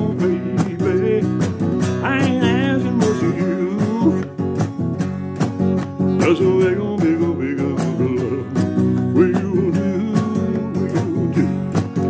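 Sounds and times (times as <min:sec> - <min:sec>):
man singing: 0:00.0 - 0:04.4, 0:06.0 - 0:12.0
acoustic guitar strumming: 0:00.0 - 0:12.0.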